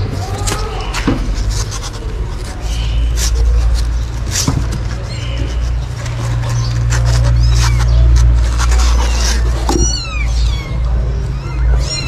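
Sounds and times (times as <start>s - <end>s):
kittens squeaking: 0.0s - 12.0s.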